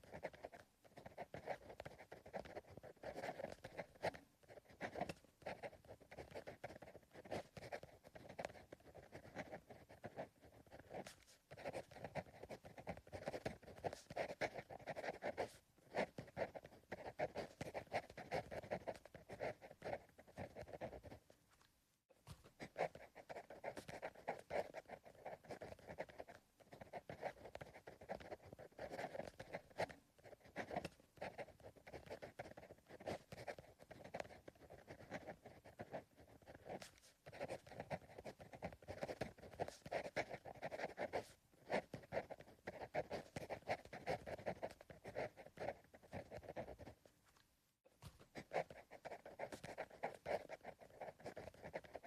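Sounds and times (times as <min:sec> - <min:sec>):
pencil writing on paper: 0:00.0 - 0:21.4, 0:22.2 - 0:47.2, 0:48.0 - 0:52.0.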